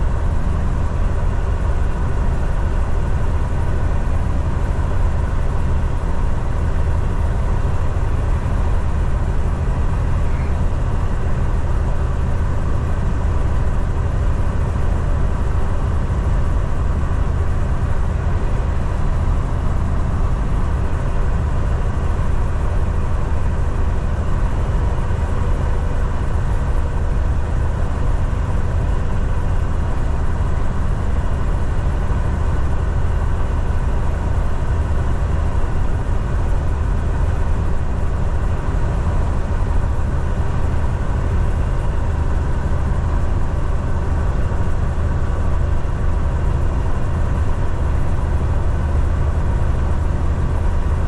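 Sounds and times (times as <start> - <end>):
road and tyre noise: 0.0 - 48.7
truck engine drone: 0.0 - 51.0.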